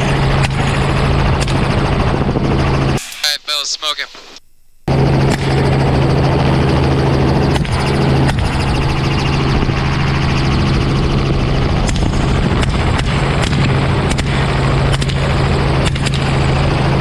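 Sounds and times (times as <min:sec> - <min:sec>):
helicopter rotor drone: 0:00.0 - 0:17.0.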